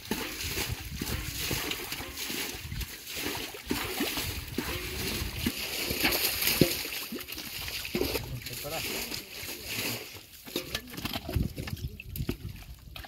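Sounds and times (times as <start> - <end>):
muddy water splashing: 0.0 - 13.0.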